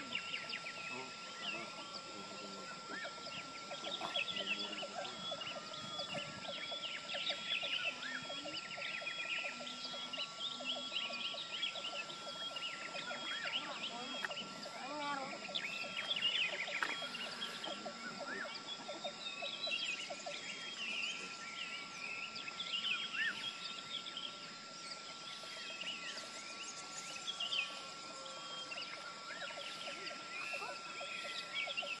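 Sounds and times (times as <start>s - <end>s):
birds chirping and whistling: 0.0s - 32.0s.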